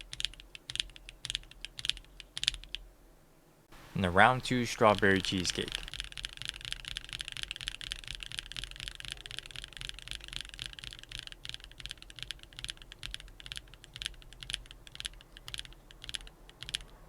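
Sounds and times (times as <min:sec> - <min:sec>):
mechanical keyboard typing: 0:00.0 - 0:02.8, 0:04.4 - 0:17.0.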